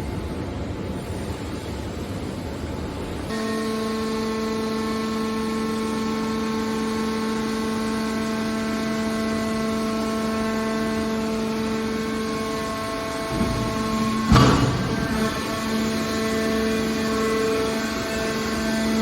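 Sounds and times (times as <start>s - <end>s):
steady pitched machine hum: 0.0s - 19.0s
baler machinery rumble: 3.3s - 19.0s.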